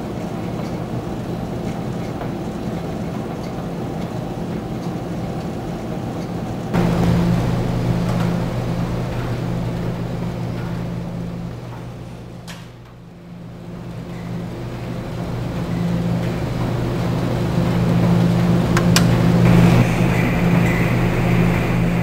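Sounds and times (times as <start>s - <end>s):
clothes dryers humming and rumbling: 0.0s - 22.0s.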